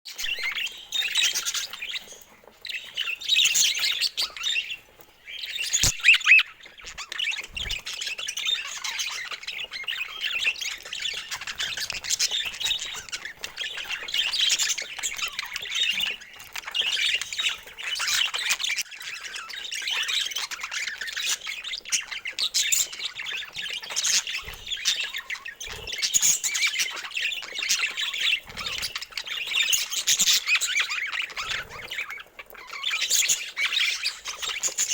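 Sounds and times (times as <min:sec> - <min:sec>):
budgerigars chattering and chirping: 0:00.1 - 0:34.9.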